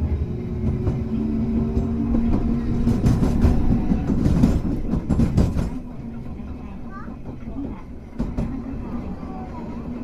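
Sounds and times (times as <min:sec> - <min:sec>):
tram motor hum: 0:00.0 - 0:10.0
wheels clattering over rail joints: 0:00.6 - 0:08.7.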